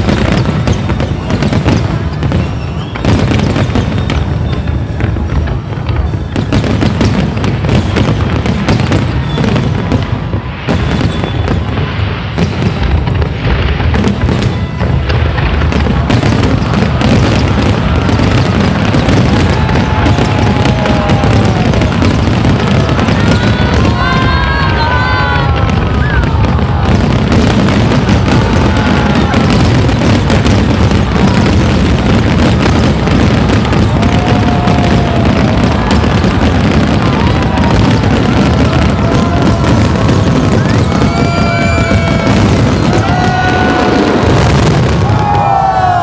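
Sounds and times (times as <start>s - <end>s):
fireworks booming and crackling: 0.0s - 46.0s.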